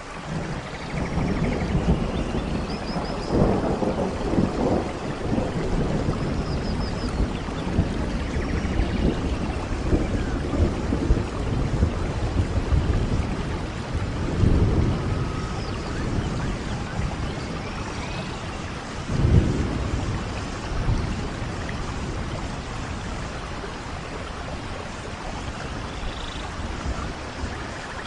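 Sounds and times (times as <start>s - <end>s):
steady rain: 0.0s - 28.0s
thunder rumbling: 0.0s - 28.0s.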